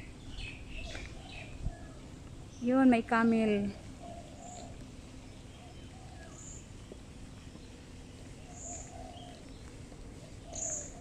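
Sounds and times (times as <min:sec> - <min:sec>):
birds cooing: 0:00.0 - 0:02.2, 0:03.6 - 0:11.0
background noise: 0:00.0 - 0:11.0.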